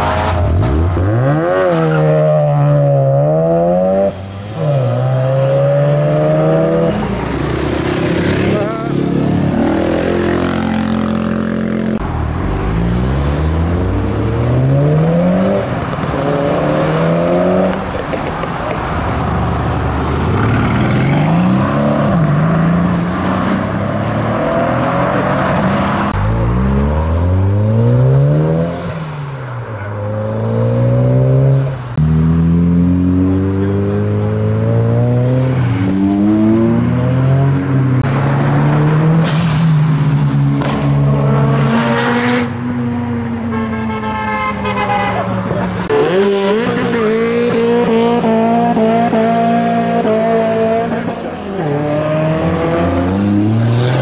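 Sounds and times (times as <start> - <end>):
car engines revving hard: 0.0 - 43.4, 44.8 - 54.0.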